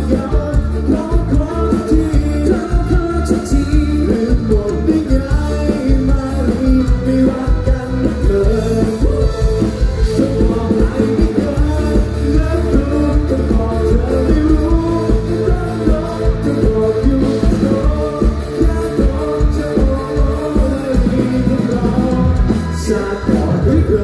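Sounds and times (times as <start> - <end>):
man singing into microphone: 0.0 - 24.0
pulsing bass beat: 0.0 - 24.0.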